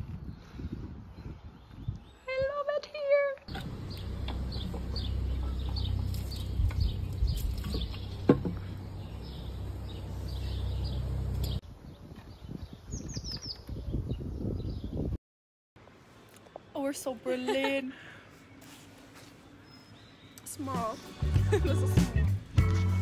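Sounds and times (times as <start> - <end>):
small birds chirping: 0.0 - 15.1, 16.3 - 21.9.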